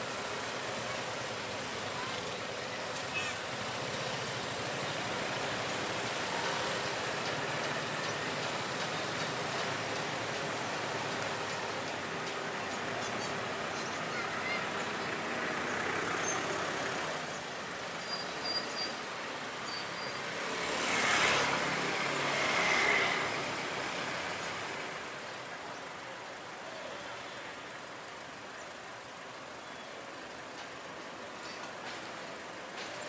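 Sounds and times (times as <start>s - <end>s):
road reclaimer rumbling: 0.0s - 20.6s, 21.4s - 33.0s.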